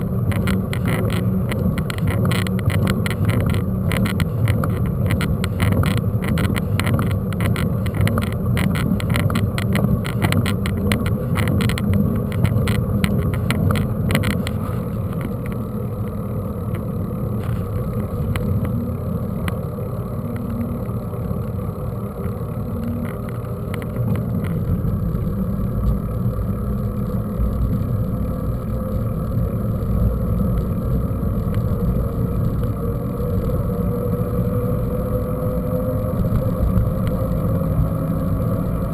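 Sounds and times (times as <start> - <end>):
bike rattling and clicking: 0.0 - 38.9
wind rumbling on microphone: 0.0 - 38.9.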